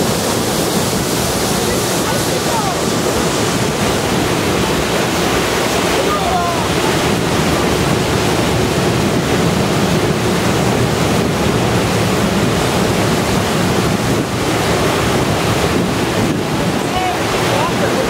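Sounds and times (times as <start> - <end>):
water gushing and splashing: 0.0 - 18.0.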